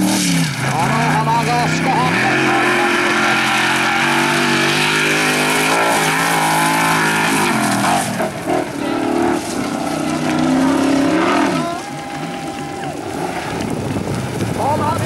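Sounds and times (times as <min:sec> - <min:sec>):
buggy engine at high revs: 0:00.0 - 0:15.0.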